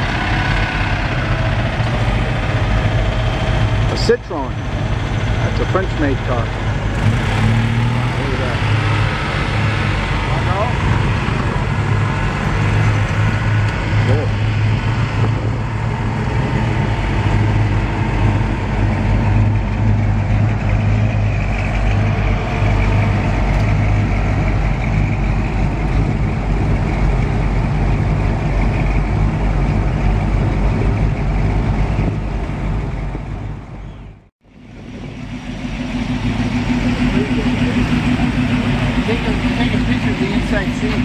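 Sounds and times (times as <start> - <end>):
car engines idling: 0.0 - 41.0.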